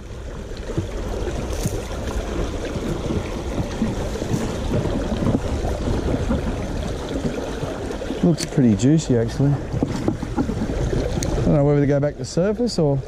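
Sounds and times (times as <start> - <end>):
creek water running over rocks: 0.0 - 13.0.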